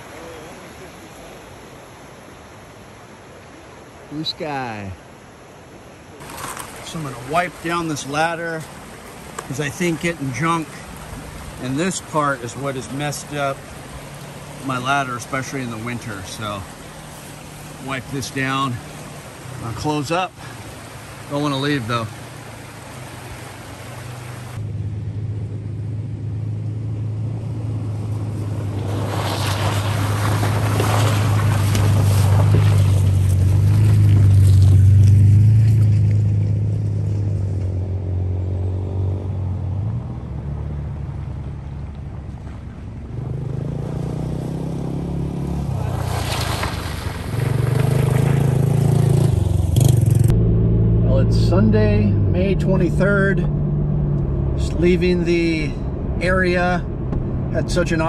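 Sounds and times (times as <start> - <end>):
atv engines droning: 6.2 - 58.0.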